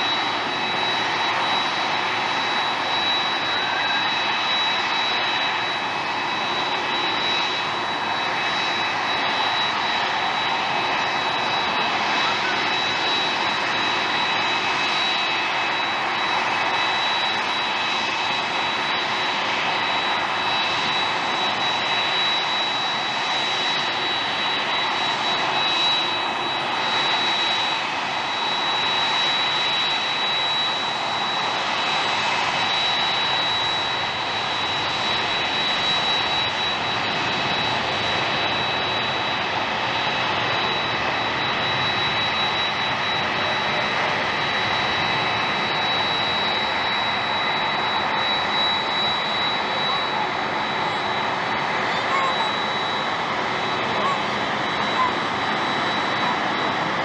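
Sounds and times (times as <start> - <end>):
jet engines rushing with whine: 0.0 - 57.0.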